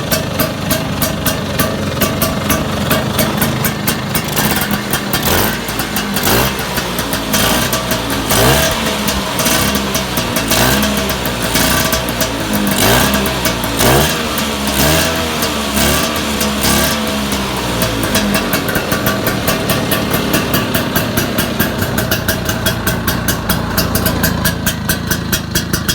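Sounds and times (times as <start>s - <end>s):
scooter engine idling and revving: 0.0s - 25.9s.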